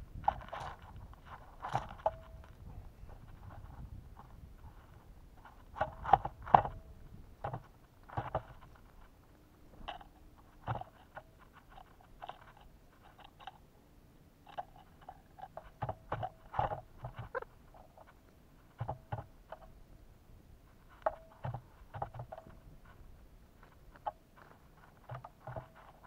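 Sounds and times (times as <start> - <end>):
birds pecking on feeder: 0.0 - 26.0.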